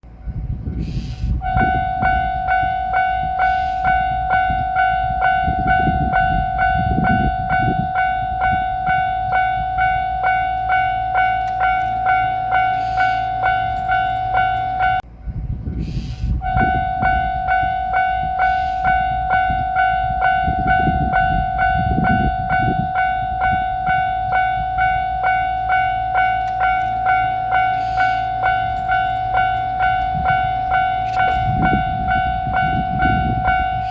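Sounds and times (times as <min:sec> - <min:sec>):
low rumble: 0:00.0 - 0:33.9
level crossing warning bell: 0:00.1 - 0:15.1, 0:16.2 - 0:33.9.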